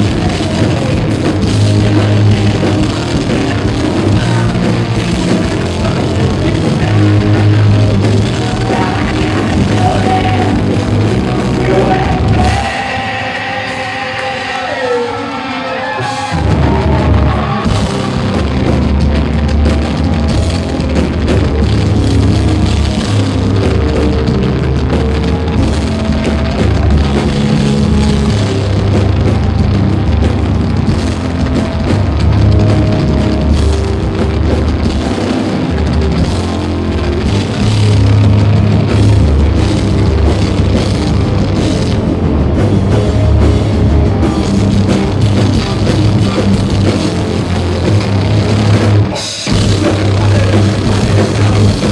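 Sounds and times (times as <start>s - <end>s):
heavy metal band playing live: 0.0s - 51.9s.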